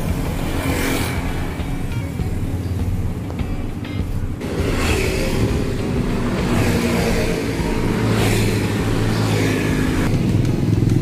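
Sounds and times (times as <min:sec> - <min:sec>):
road traffic driving past: 0:00.0 - 0:11.0.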